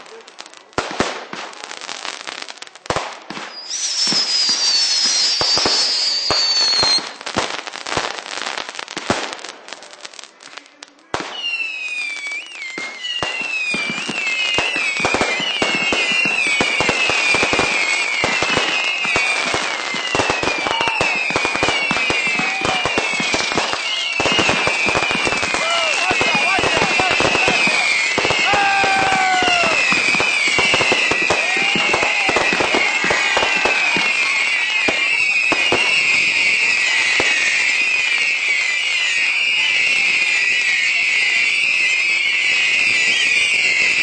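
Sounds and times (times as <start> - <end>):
fireworks crackling pops: 0.0 - 44.0
fireworks whistling: 0.0 - 44.0.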